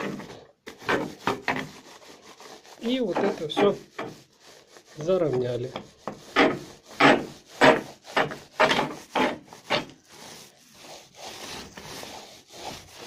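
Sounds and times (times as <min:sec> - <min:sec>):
roller rubbing over foam insulation: 0:00.0 - 0:13.0.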